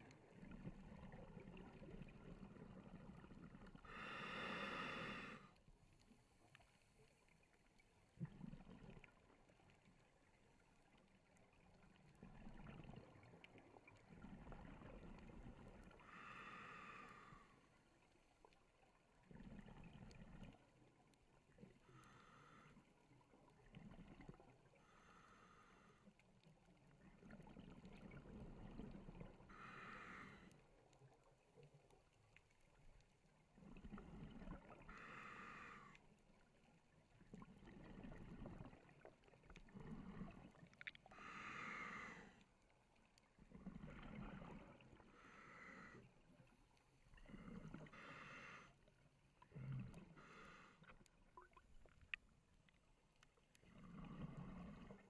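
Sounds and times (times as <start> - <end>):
underwater bubble bursts: 0.0 - 5.4, 8.1 - 17.3, 18.6 - 21.8, 23.0 - 24.7, 26.4 - 45.1, 45.8 - 55.0.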